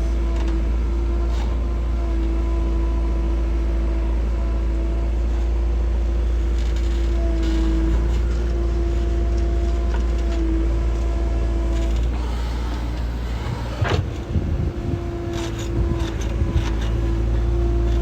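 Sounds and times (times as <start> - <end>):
diesel engine running: 0.0 - 18.0
engine whine: 0.0 - 18.0.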